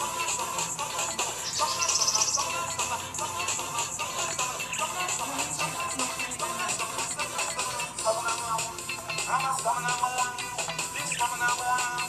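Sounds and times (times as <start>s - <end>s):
music with singing voice: 0.0s - 12.0s.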